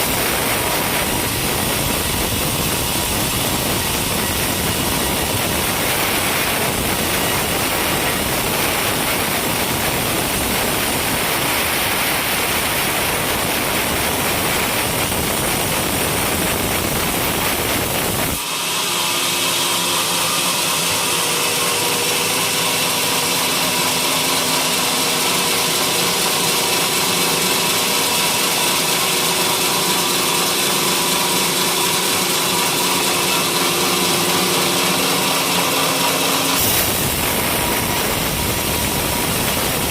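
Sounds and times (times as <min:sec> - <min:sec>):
sawmill sawing timber: 0:00.0 - 0:39.9
steady machine whine: 0:00.0 - 0:39.9.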